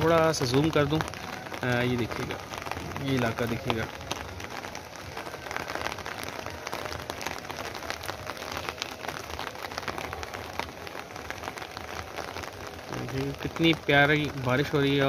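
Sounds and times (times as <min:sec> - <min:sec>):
hiss of rain: 0:00.0 - 0:15.0
raindrop ticks: 0:00.0 - 0:15.0.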